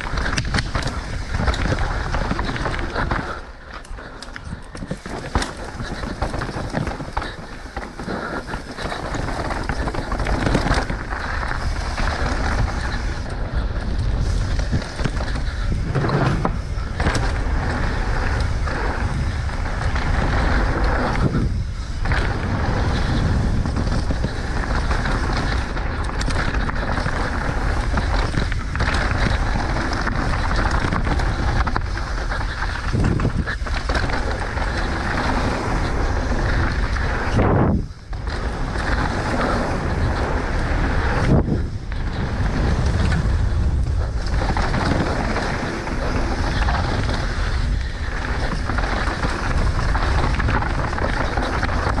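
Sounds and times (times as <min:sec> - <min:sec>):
mountain bike rolling and rattling: 0:00.0 - 0:52.0
wind on microphone: 0:04.4 - 0:52.0.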